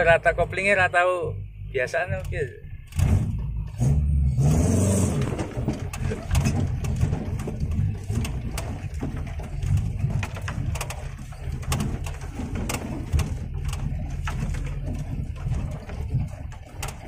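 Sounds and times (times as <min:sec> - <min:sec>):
engine running with low rumble: 0:00.0 - 0:17.0
sharp clicks and knocks: 0:02.2 - 0:03.9, 0:04.9 - 0:17.0.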